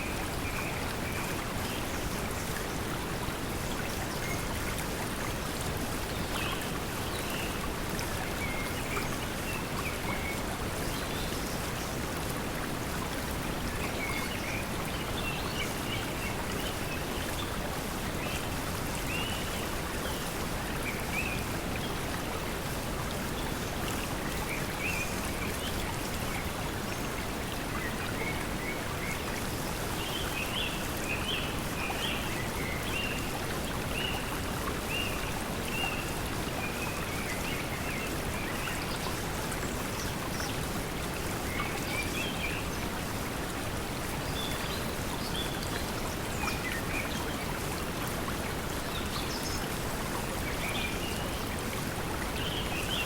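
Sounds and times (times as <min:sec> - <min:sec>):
flowing water: 0:00.0 - 0:53.0.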